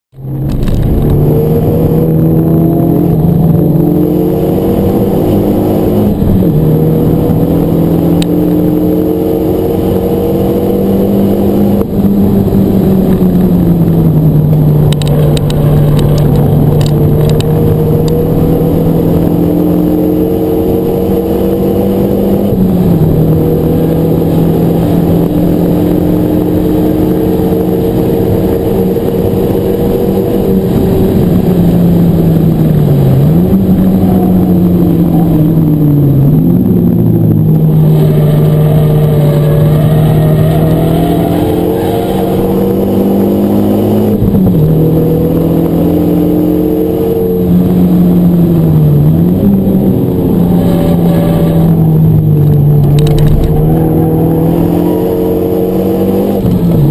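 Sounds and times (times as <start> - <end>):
car engine revving through gears: 0.1 - 56.9.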